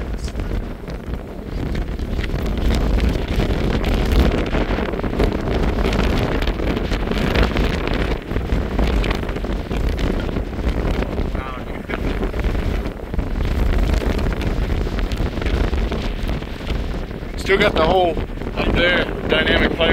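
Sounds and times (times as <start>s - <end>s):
gusty wind on microphone: 0.0s - 19.9s.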